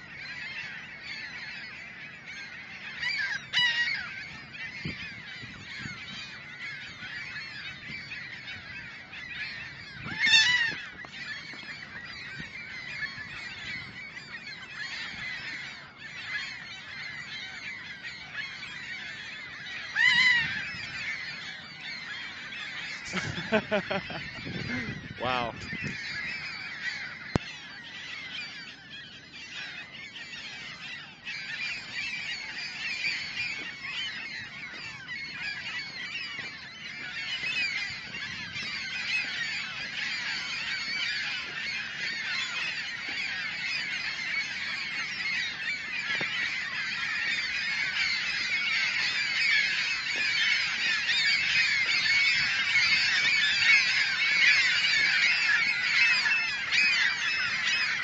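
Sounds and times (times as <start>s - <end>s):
gulls calling: 0.0s - 58.0s.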